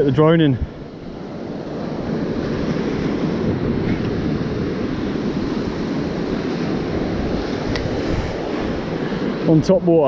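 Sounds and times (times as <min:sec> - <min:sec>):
surf washing up sand: 0:00.0 - 0:10.0
wind buffeting microphone: 0:00.0 - 0:10.0.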